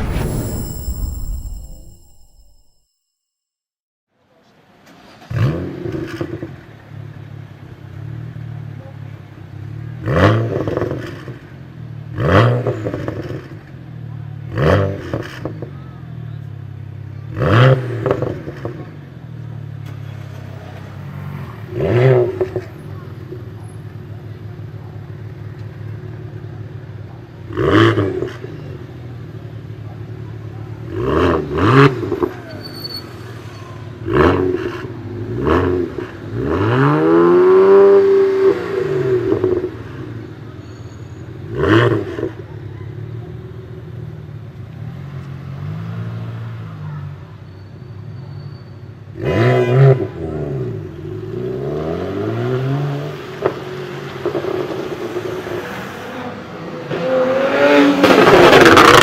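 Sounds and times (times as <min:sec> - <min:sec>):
car engine idling and revving: 0:04.5 - 0:48.2, 0:48.8 - 0:59.0.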